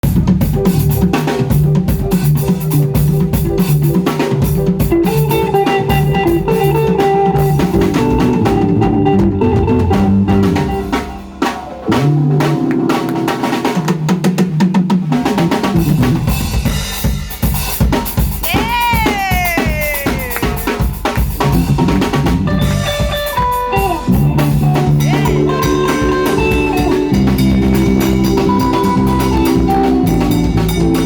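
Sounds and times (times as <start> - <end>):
band playing groove: 0.0 - 31.0
drum kit with rimshots: 0.0 - 31.0.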